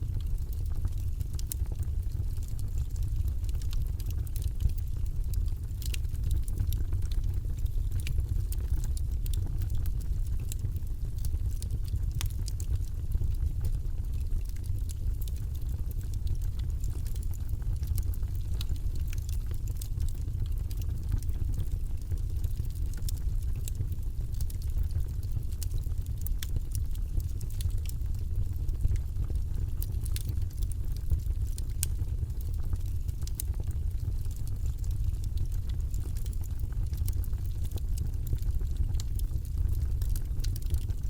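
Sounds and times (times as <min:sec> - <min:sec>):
low rumble of burning: 0:00.0 - 0:41.0
wood fire crackling: 0:00.0 - 0:41.0.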